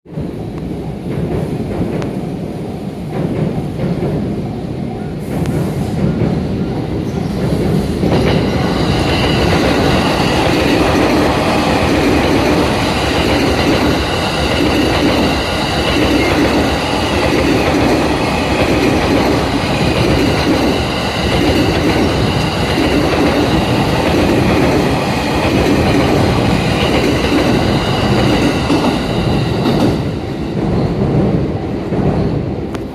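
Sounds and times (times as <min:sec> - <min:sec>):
train wheels clattering: 0:05.2 - 0:32.9.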